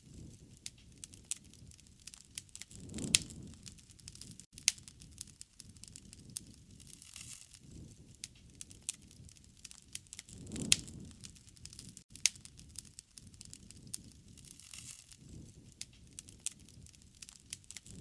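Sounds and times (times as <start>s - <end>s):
low rush of flame: 0.0s - 18.0s
burning wood snapping: 0.1s - 18.0s.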